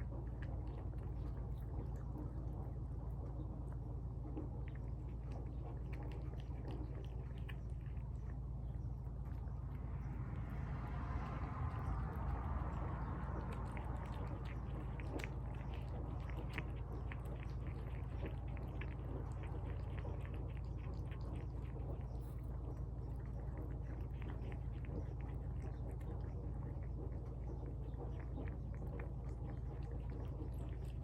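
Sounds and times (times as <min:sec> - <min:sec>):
pet chewing wetly: 0:00.0 - 0:31.0
steady low hum: 0:00.0 - 0:31.0.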